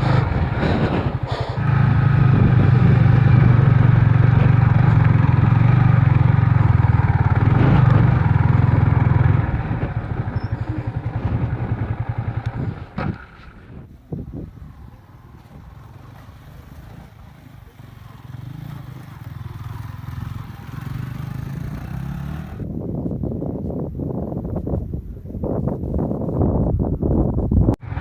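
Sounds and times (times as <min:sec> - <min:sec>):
motorcycle engine labouring: 0:00.0 - 0:22.7, 0:27.8 - 0:28.0.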